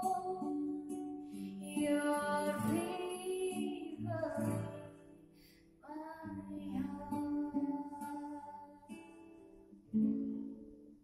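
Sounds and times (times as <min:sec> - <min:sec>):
woman singing: 0:00.0 - 0:09.6
acoustic guitar: 0:00.0 - 0:11.0.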